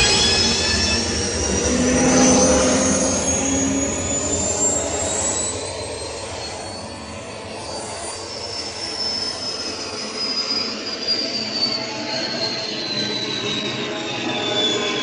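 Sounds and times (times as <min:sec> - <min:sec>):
jet turbine whine: 0:00.0 - 0:15.0.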